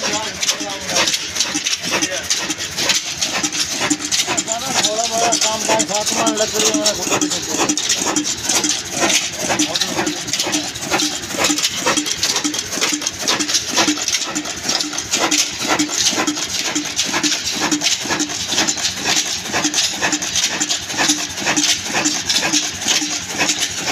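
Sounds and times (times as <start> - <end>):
diesel engine running slowly: 0.0 - 23.9
sharp metallic clicks and knocks: 0.0 - 23.9.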